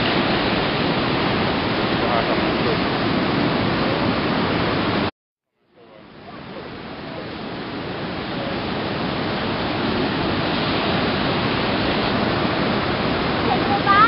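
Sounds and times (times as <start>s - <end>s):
surf breaking on rocks: 0.0s - 5.1s, 6.3s - 14.0s.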